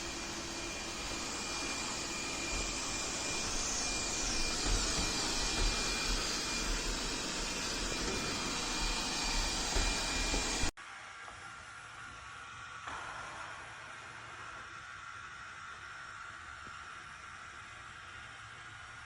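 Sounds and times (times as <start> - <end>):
robot vacuum cleaner running: 0.0 - 18.6.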